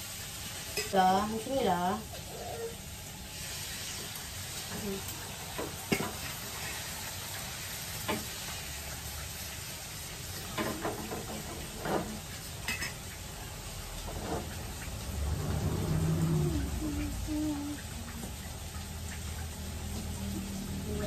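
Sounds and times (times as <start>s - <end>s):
egg sizzling in frying pan: 0.0s - 21.0s.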